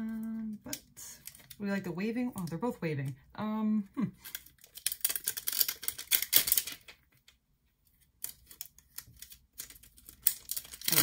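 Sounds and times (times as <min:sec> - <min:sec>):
plastic crackling and crinkling: 0:00.0 - 0:03.2, 0:04.1 - 0:11.0.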